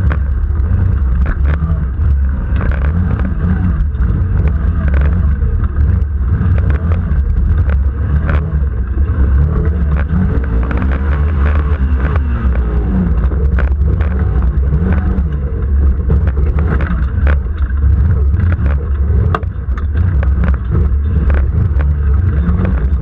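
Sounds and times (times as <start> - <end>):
off-road vehicle engine droning: 0.0 - 23.0
vehicle knocks and rattles: 0.0 - 23.0.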